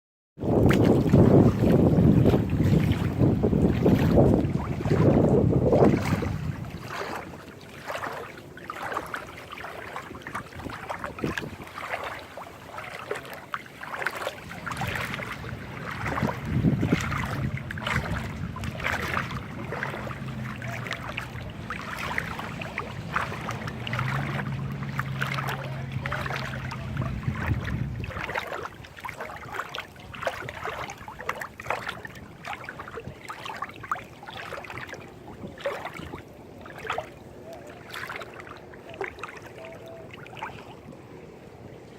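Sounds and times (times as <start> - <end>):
small waves lapping and splashing: 0.4 - 41.9.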